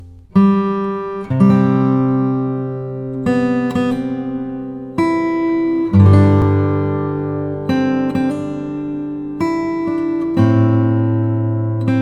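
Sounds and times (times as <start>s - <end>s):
acoustic guitar chords strummed: 0.0s - 12.0s.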